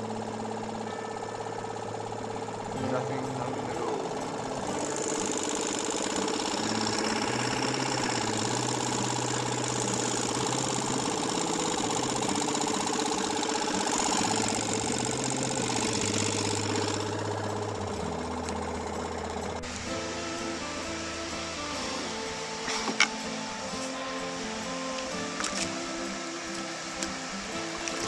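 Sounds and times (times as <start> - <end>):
outboard motor running: 0.0 - 28.0.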